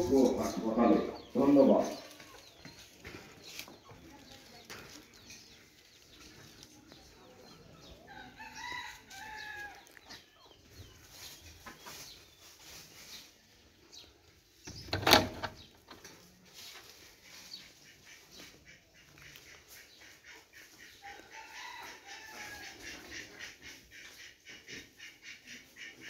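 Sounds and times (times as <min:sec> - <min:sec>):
faint chickens clucking: 0:00.0 - 0:26.0.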